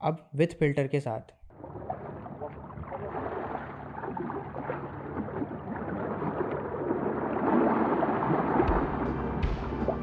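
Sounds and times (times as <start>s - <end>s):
muffled water sloshing and gurgling: 1.5s - 10.0s.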